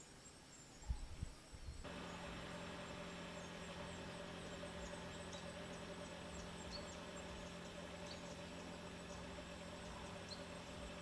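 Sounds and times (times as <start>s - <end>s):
faint high chirps: 0.0s - 11.0s
faint low hum: 0.0s - 11.0s.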